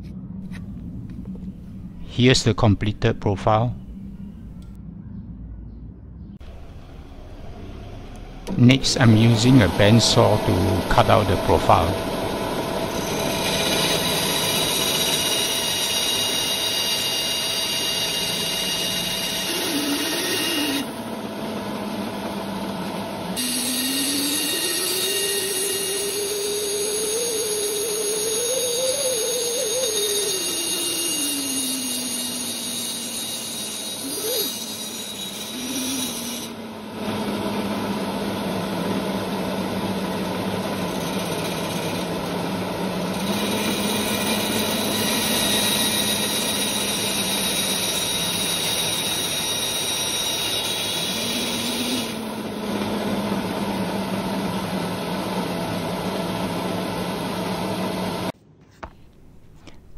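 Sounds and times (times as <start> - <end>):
bandsaw humming: 6.5 - 57.6.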